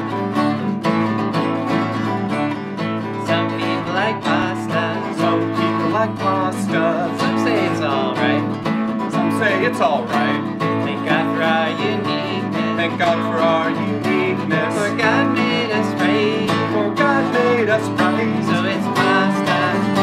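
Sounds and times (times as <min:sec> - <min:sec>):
acoustic guitars strummed: 0:00.0 - 0:20.0.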